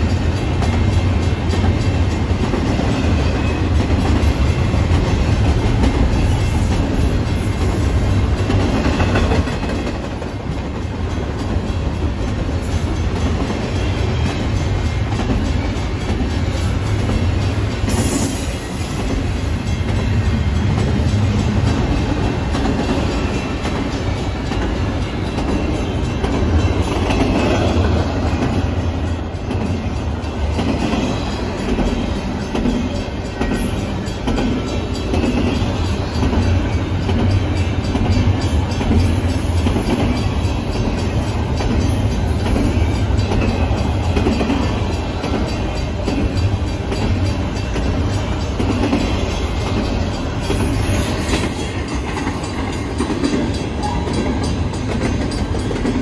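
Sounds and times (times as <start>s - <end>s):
clickety-clack of wheels: 0.0s - 56.0s
freight train wheels rumbling: 0.0s - 56.0s.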